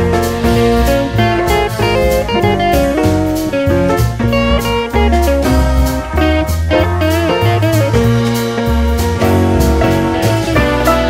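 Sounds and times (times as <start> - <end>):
guitar: 0.0 - 11.0
steady bass line: 0.0 - 11.0.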